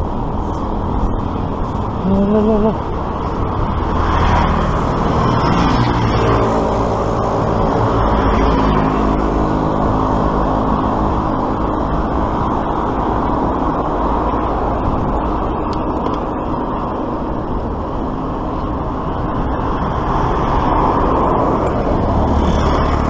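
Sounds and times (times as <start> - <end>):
road traffic rush: 0.0 - 23.0.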